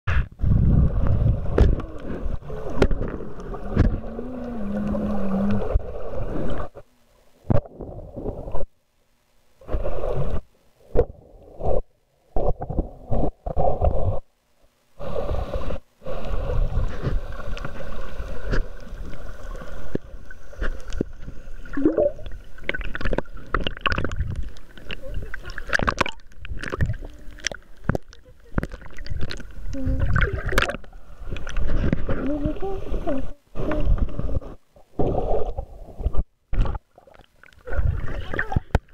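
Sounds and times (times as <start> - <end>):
underwater rumbling and gurgling: 0.1 - 8.9, 9.5 - 38.9
low hum: 0.1 - 36.6.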